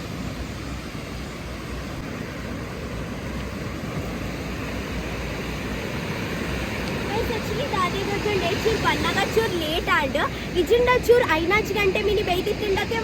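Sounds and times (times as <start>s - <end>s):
sea surf roaring: 0.0s - 13.0s.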